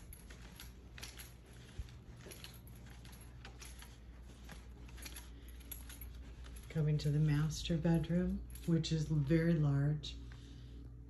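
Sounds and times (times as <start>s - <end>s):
faint clicks and rustles: 0.0s - 11.0s
low steady hum: 0.0s - 11.0s.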